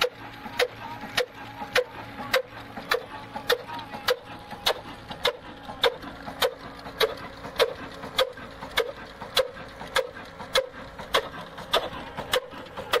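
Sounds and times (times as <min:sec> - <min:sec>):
diesel engine beating: 0:00.0 - 0:13.0.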